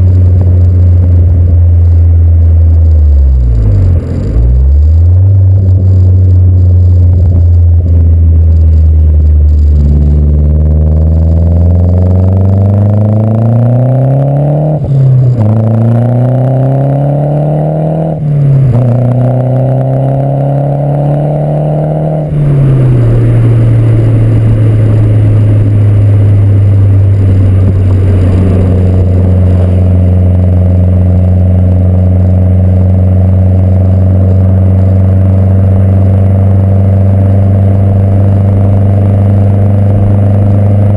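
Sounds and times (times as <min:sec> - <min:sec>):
car engine exhaust revving: 0:00.0 - 0:40.9.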